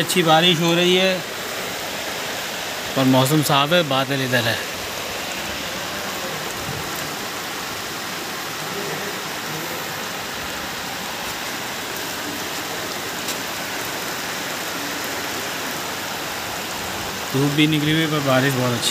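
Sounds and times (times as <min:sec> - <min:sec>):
heavy rain on plastic tarpaulin: 0:00.0 - 0:18.9.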